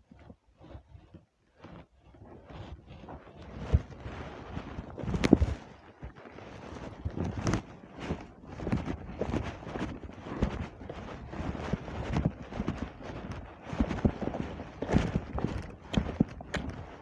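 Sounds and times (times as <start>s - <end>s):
footsteps on dry mud: 1.7s - 17.0s.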